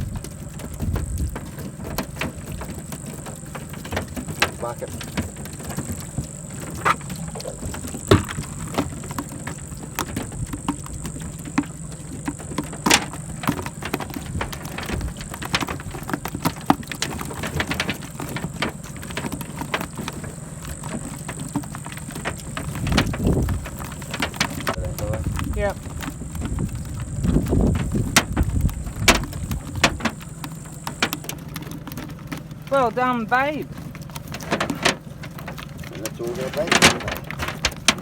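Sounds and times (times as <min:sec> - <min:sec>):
motor running: 0:00.0 - 0:38.0
small clicks and rattles: 0:00.0 - 0:38.0.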